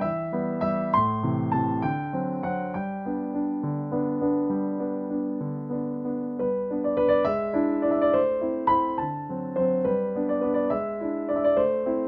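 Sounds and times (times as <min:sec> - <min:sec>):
piano melody over chords: 0:00.0 - 0:12.0.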